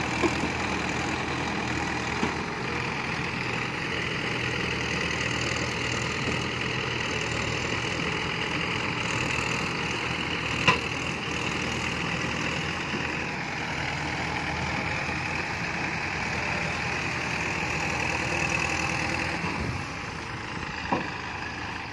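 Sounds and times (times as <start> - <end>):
tractor diesel engines running: 0.0 - 21.9.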